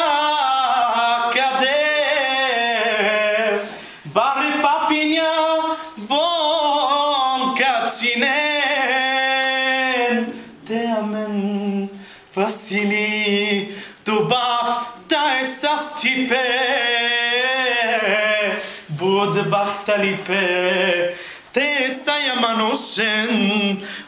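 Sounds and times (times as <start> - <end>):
person singing slow song: 0.0 - 24.0.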